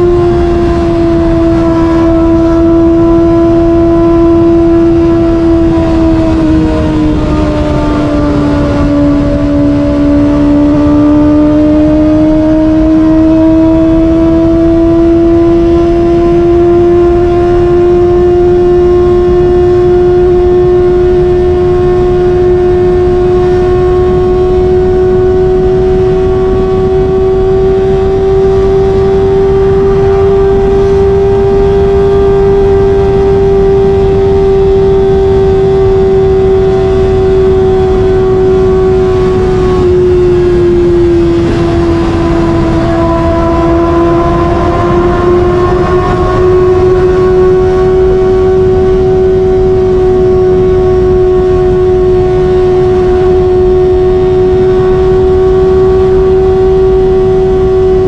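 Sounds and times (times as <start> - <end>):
motorcycle engine at high revs: 0.0 - 58.0
wind rush on microphone: 0.0 - 58.0.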